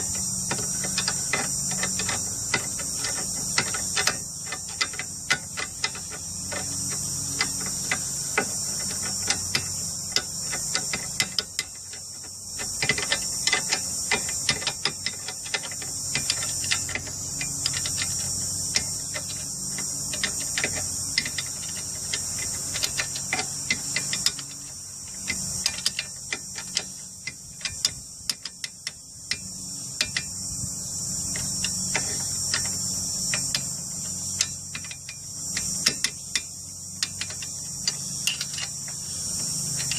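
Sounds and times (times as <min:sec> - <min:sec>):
ratchet wrench clicking: 0:00.0 - 0:39.9.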